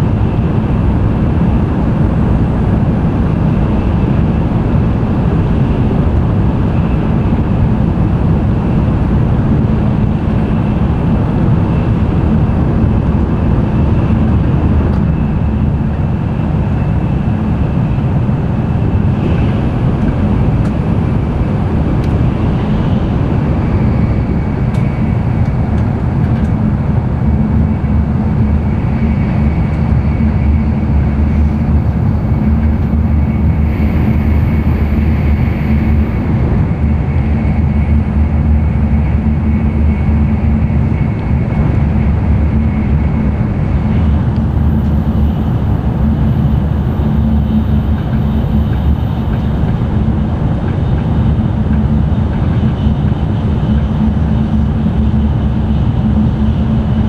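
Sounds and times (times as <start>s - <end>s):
train wheels and air rumbling: 0.0s - 57.0s.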